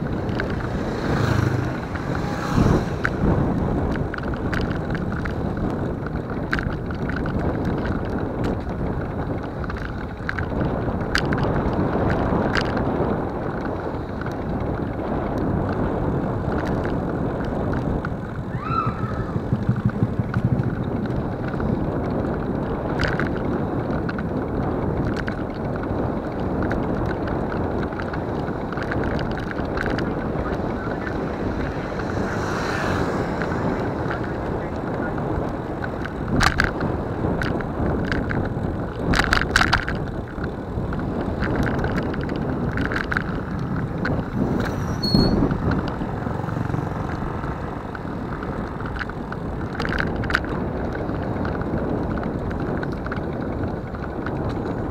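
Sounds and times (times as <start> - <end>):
road rumble: 0.0 - 54.9
wind buffeting microphone: 0.0 - 54.9
light clicks and rattles: 0.1 - 15.9, 19.5 - 54.9.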